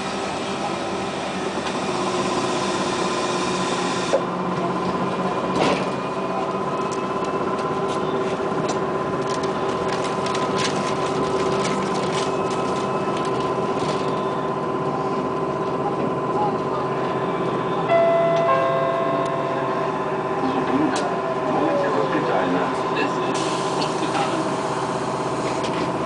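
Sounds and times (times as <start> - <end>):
electric trolleybus whine: 0.0 - 26.0
road rumble: 0.0 - 26.0.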